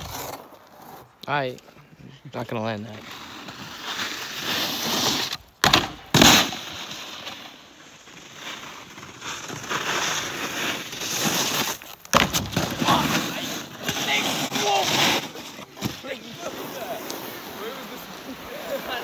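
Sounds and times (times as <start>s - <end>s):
snowboard scraping over snow: 2.6s - 5.4s, 6.2s - 19.0s.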